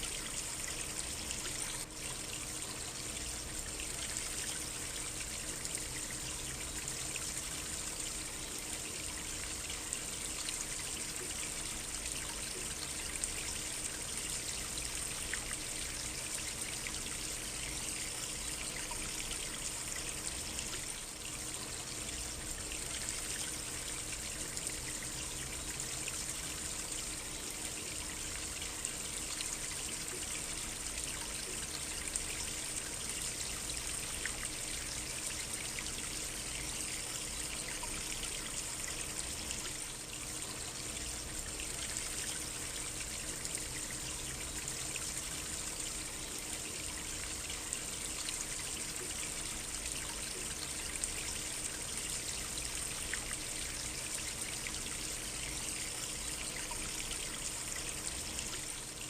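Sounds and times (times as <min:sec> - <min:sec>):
small stream trickling: 0:00.0 - 0:59.0.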